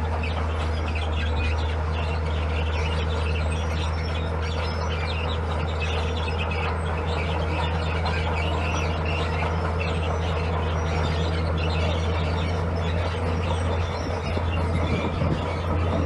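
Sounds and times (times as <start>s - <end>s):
birds chirping: 0.0s - 16.0s
diesel engine running: 0.0s - 16.0s.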